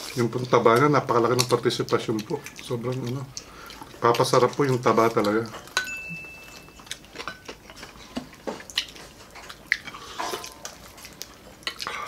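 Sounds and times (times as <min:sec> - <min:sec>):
lip smacks: 0:00.0 - 0:05.8, 0:06.8 - 0:12.0
wet chewing: 0:00.0 - 0:12.0.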